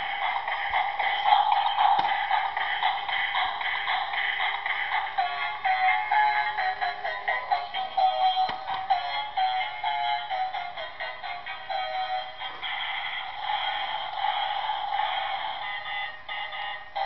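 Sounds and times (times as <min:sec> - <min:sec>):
tinny electronic toy melody: 0:00.0 - 0:17.0.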